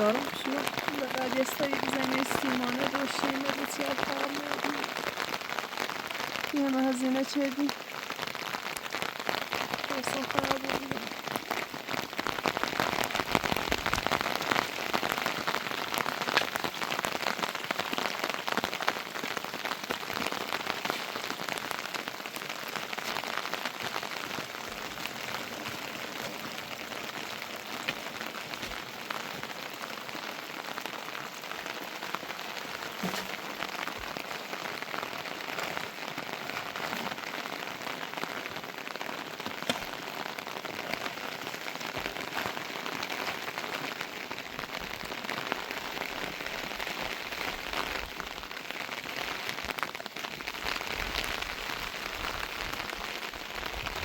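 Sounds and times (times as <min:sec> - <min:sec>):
heavy rain falling: 0:00.0 - 0:54.0
raindrops ticking on surface: 0:00.0 - 0:54.0.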